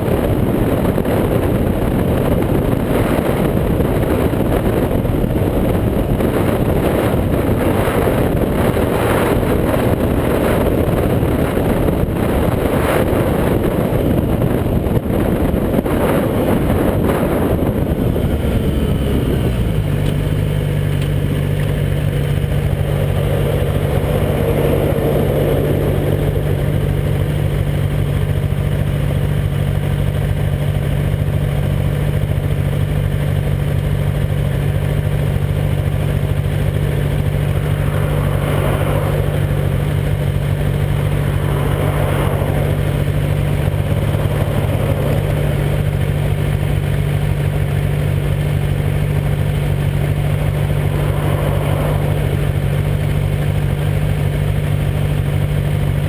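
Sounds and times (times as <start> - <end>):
tanker truck passing: 0.0 - 28.8, 35.9 - 54.6
motorcycle engine idling: 0.0 - 56.0
passing traffic: 0.0 - 56.0.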